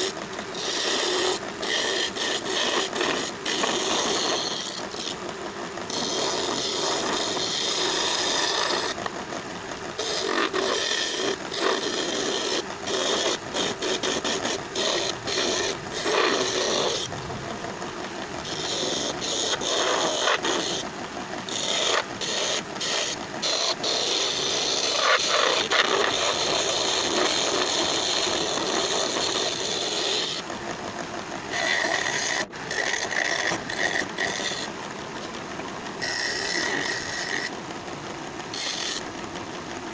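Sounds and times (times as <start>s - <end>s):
chisel scraping spinning wood: 0.0s - 35.4s, 36.0s - 37.6s, 38.5s - 39.1s.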